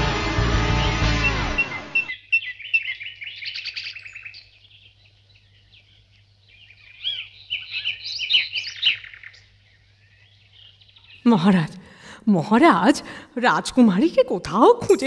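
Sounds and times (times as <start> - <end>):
small birds chirping: 0.7 - 15.0.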